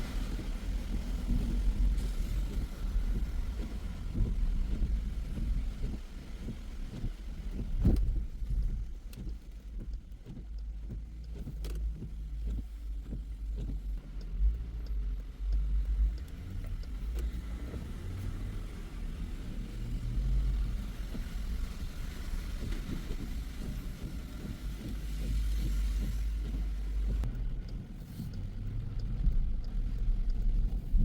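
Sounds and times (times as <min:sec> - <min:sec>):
car road and engine rumble: 0:00.0 - 0:31.0
sharp ticks: 0:04.8 - 0:31.0.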